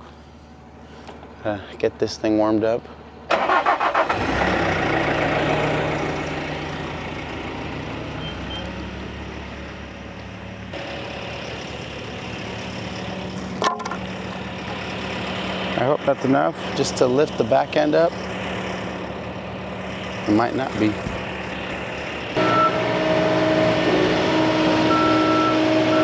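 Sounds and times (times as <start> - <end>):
diesel engine starting and idling: 0.0 - 26.0.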